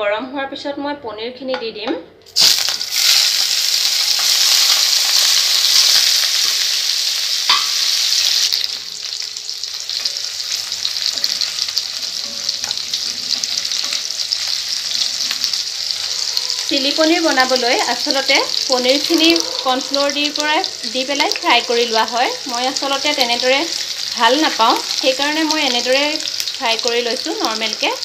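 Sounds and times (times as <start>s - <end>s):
cheese frying in hot oil: 2.4s - 28.0s.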